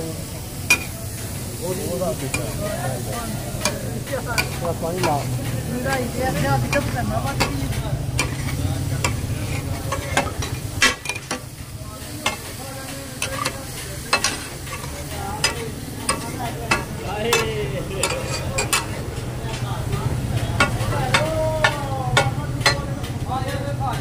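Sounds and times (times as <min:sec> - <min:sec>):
meat sizzling: 0:00.0 - 0:23.2
metal spatulas clanking on griddle: 0:00.6 - 0:23.7.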